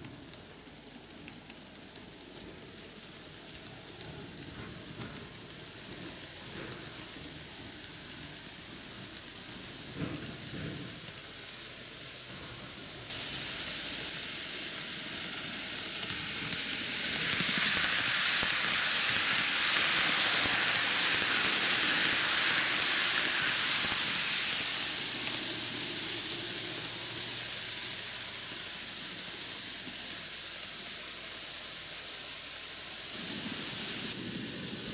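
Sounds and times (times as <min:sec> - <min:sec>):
model train wheels rattling on rails: 0:00.0 - 0:34.9.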